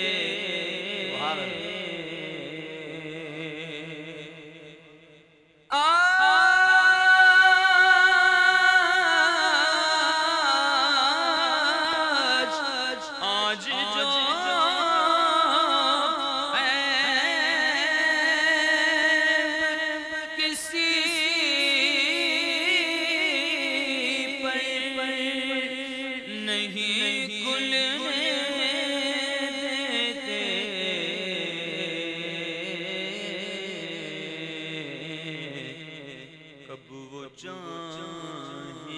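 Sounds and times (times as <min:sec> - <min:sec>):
man singing into a microphone: 0:00.0 - 0:04.8, 0:05.7 - 0:38.9.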